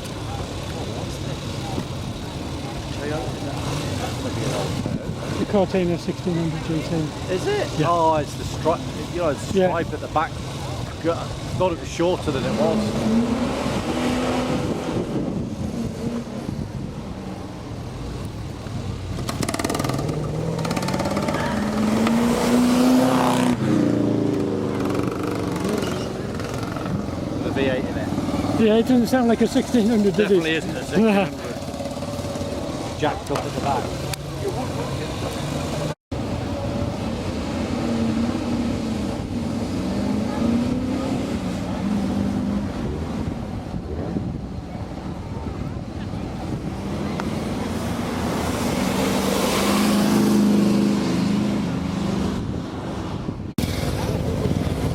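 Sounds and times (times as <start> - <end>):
car engine accelerating hard: 0.0 - 44.4, 45.0 - 54.9
wind buffeting microphone: 8.3 - 54.9.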